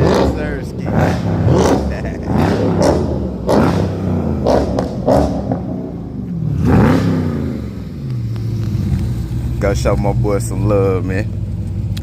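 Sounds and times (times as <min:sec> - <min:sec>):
car engine idling: 0:00.0 - 0:12.0
car engine revving: 0:00.0 - 0:12.0.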